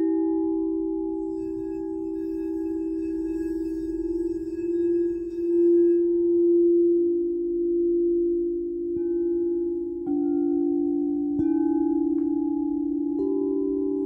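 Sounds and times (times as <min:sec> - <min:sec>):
singing bowls ringing: 0:00.0 - 0:14.0.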